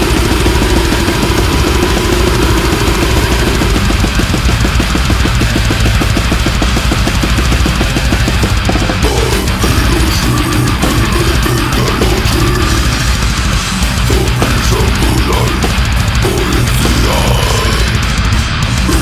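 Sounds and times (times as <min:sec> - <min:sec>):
death metal music: 0:00.0 - 0:19.0
fast drumming: 0:00.0 - 0:19.0.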